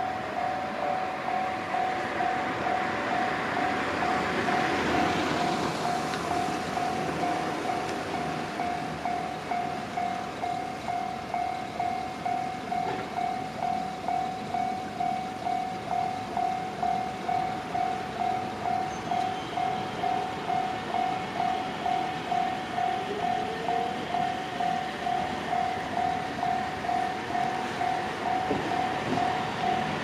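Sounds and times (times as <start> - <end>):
level crossing bell ringing: 0.0 - 30.0
train running by: 0.0 - 30.0.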